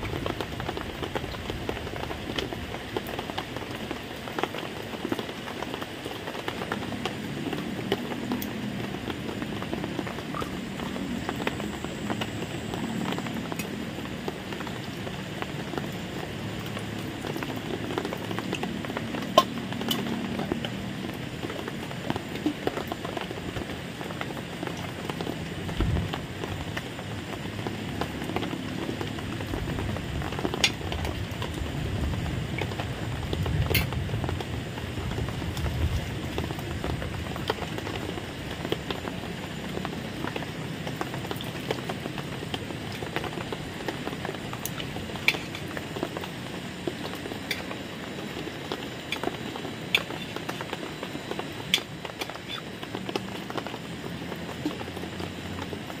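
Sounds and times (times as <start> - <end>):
rain-like rushing noise: 0.0 - 56.0.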